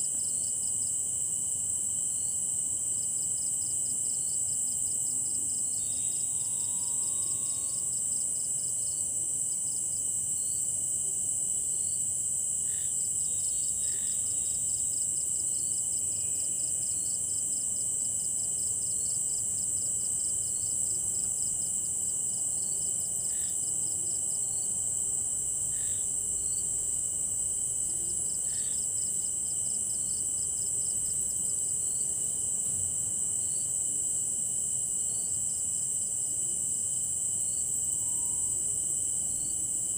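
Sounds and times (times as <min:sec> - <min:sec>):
faint steady insect tone: 0:00.0 - 0:39.9
rapidly pulsing insect chirp: 0:00.0 - 0:39.9
insect high-pitched trill: 0:02.2 - 0:33.8, 0:34.4 - 0:39.9.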